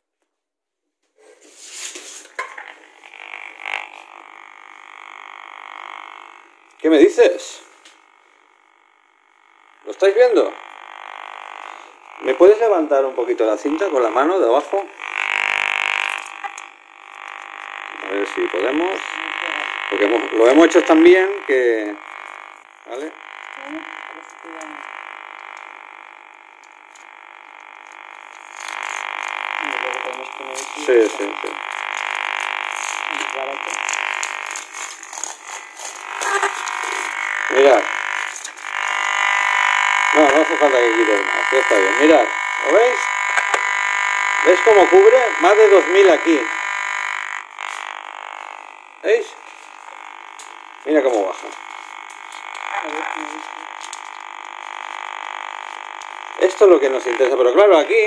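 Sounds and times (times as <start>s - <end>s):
steady buzzing tone: 2.3s - 58.0s.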